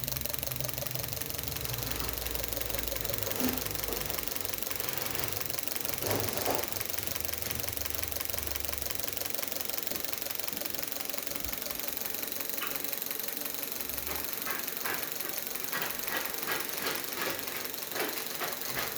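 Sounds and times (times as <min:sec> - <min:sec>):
car engine idling with ticking: 0:00.0 - 0:18.9
sharp clicks: 0:00.0 - 0:18.9.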